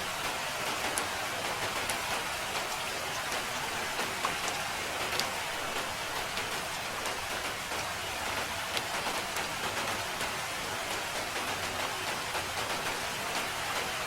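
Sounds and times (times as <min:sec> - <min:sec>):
steady rain falling: 0:00.0 - 0:14.0
single raindrops ticking: 0:00.2 - 0:13.9.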